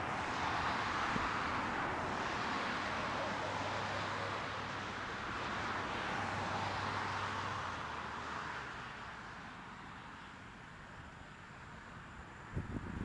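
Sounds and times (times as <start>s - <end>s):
car tyres passing: 0.0s - 12.0s.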